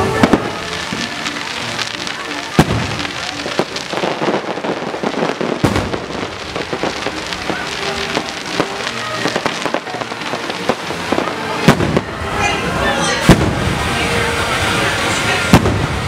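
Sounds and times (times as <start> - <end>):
firework bang: 0.0 - 12.3, 13.2 - 13.8, 15.5 - 16.0
fireworks crackling: 0.0 - 16.0.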